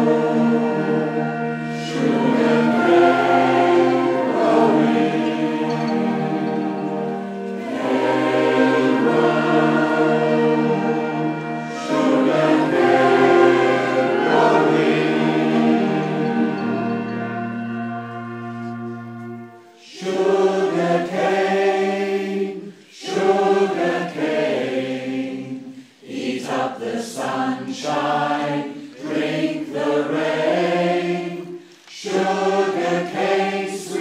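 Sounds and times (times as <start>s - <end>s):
large choir singing: 0.0s - 34.0s.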